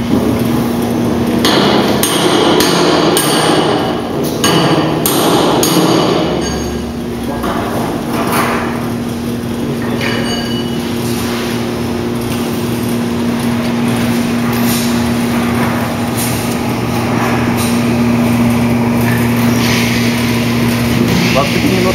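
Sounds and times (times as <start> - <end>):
electric fan motor hum: 0.0 - 21.9.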